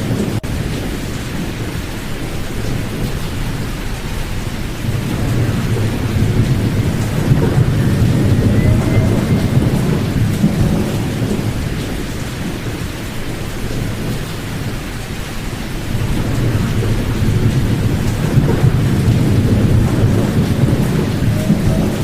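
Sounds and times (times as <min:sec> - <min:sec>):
low rumbling pink noise: 0:00.0 - 0:22.0.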